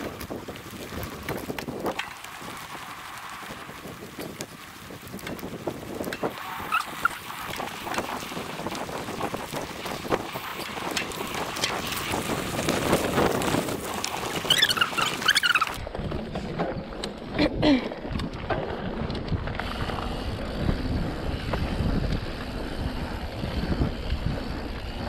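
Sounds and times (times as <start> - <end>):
bike rattling over bumps: 0.0 - 25.0
bike tyres rolling on dirt: 0.0 - 25.0
wind on microphone: 0.0 - 25.0.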